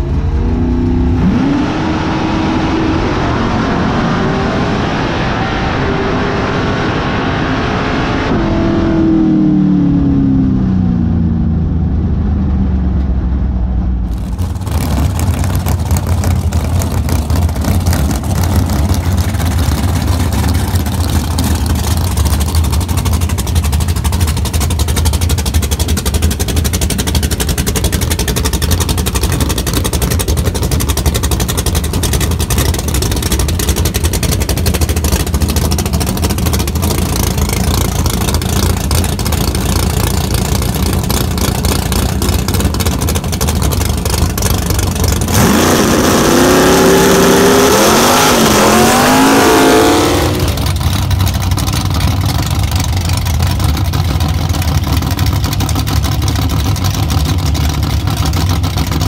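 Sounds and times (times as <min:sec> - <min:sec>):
race car engine running loudly: 0:00.0 - 0:59.0.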